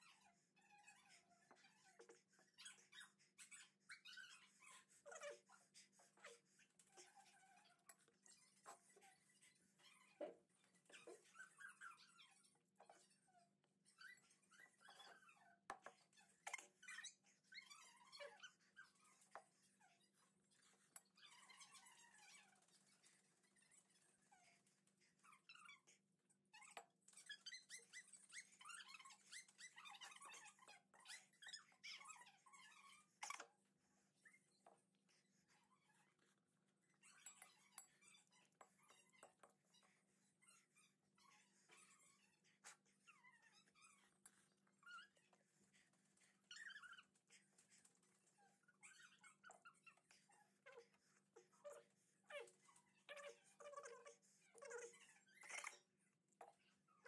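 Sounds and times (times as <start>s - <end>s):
small dog whining: 0.0s - 13.4s, 14.0s - 33.6s, 37.0s - 57.0s.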